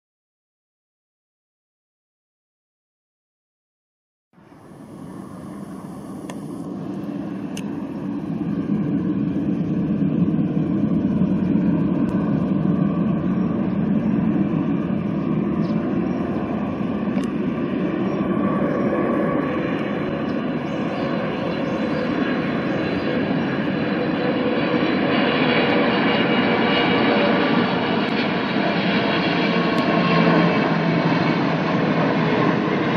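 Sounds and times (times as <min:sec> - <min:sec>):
faint jet whine: 0:04.4 - 0:32.9
jet engine rumble: 0:04.4 - 0:32.9.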